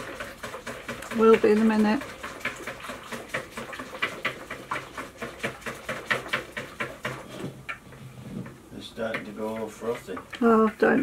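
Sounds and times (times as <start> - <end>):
whisk clicking against bowl: 0.0 - 7.9, 9.0 - 10.4.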